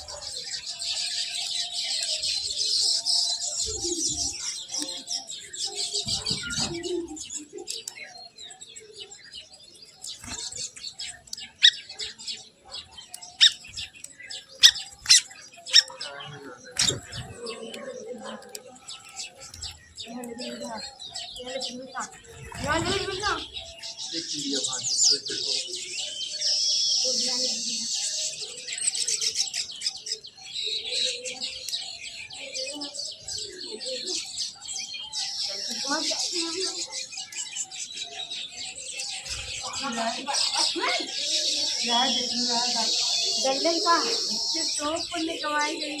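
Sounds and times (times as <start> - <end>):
sharp loud bird calls: 0.0 - 17.6, 19.0 - 46.0
birds chirping: 0.0 - 46.0.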